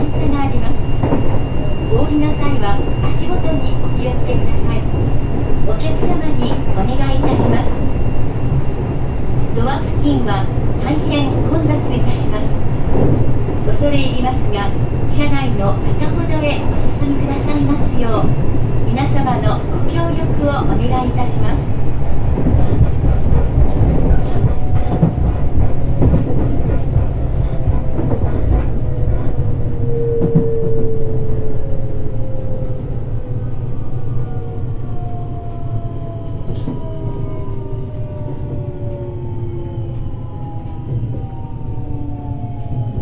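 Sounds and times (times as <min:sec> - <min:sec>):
train wheel and rail rumble: 0:00.0 - 0:43.0.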